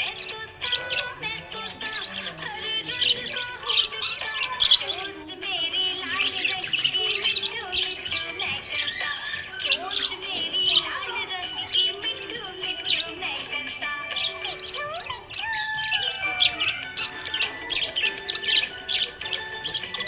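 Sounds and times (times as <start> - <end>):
budgerigars chirping and warbling: 0.0 - 20.0.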